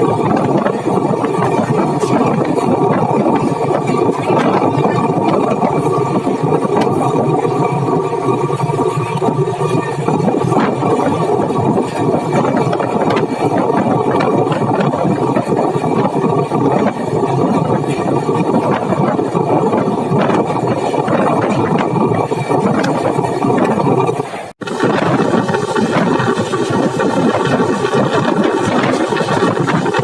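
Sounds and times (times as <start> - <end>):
train rumbling and rattling: 0.0 - 30.0.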